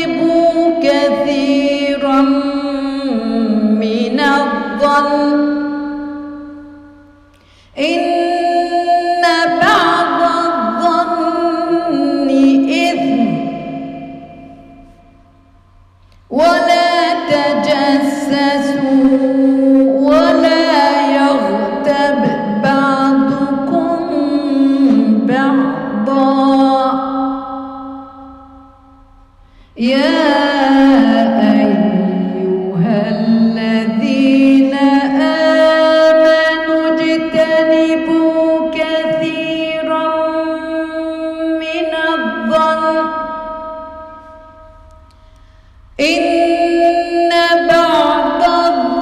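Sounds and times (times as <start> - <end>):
woman reciting melodically: 0.0 - 15.4, 16.2 - 29.0, 29.8 - 45.4, 46.0 - 49.0
woman chanting with echo: 0.0 - 49.0.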